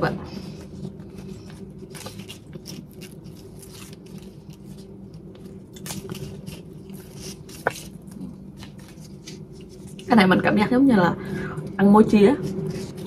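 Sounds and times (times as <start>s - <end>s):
dry leaf wrapper crackling: 0.0s - 10.9s.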